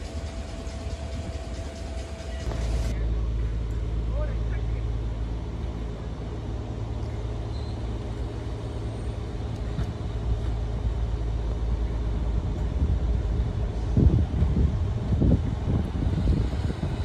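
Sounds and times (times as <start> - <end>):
train engine hum: 0.0 - 17.0.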